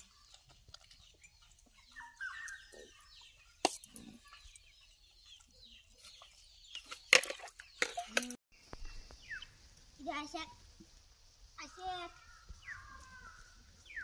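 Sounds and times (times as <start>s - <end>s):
birds chirping: 0.0s - 10.5s, 11.6s - 14.0s.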